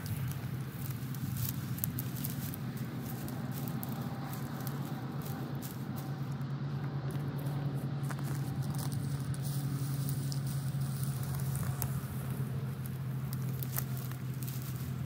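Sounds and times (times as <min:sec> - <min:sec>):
dry grass rustling and crackling: 0:00.0 - 0:15.0
steady low rumble: 0:00.0 - 0:15.0.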